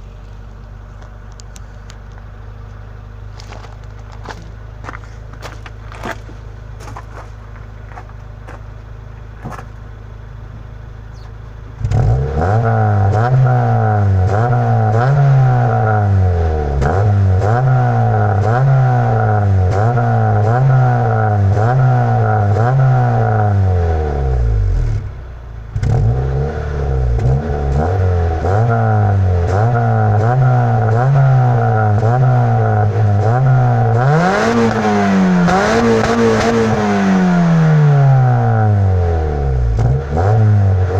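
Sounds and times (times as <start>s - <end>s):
car engine revving: 0.9s - 40.9s.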